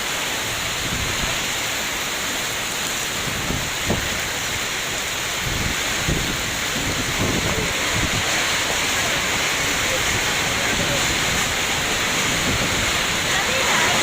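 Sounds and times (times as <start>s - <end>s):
heavy rain pouring: 0.0s - 14.0s
strong wind gusts rumbling: 0.5s - 1.6s, 2.9s - 14.0s.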